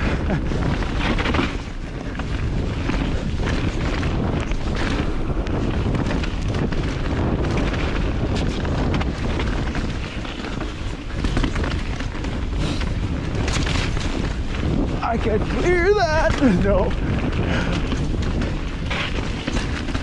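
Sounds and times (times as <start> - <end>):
bike rattling over bumps: 0.0 - 20.0
heavy wind rumble on microphone: 0.0 - 20.0
tyres rolling on dirt: 0.0 - 20.0.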